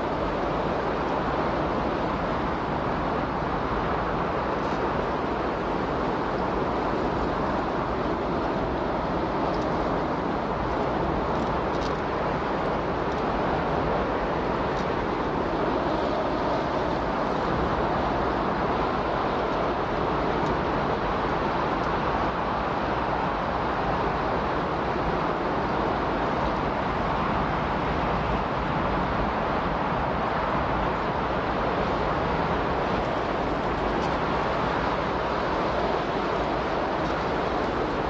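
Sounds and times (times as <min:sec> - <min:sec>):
steady rushing noise: 0:00.0 - 0:38.0.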